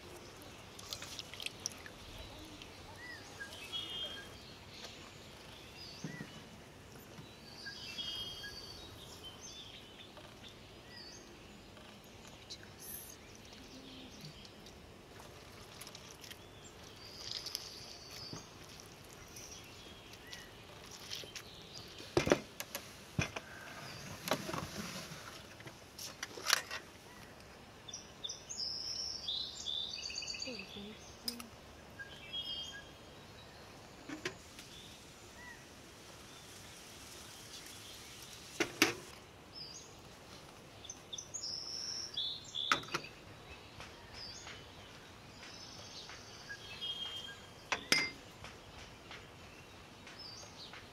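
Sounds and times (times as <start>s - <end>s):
birds chirping: 0.0s - 50.9s
outdoor background noise: 0.0s - 50.9s.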